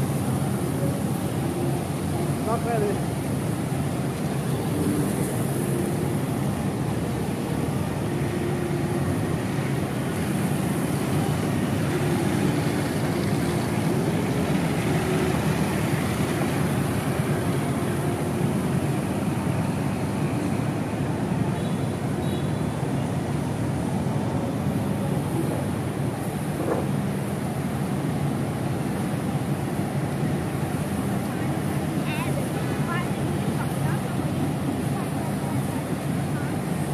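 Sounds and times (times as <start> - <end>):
vehicle engines rumbling: 0.0 - 36.9.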